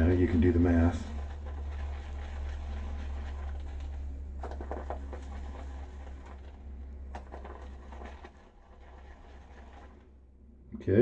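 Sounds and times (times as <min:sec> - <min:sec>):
shaving brush swishing lather: 0:00.2 - 0:10.2.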